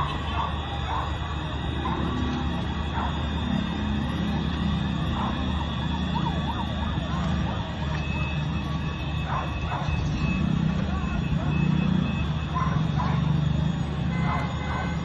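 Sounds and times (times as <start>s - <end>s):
low rumble of street noise: 0.0s - 15.0s
warbling emergency siren: 0.0s - 15.0s.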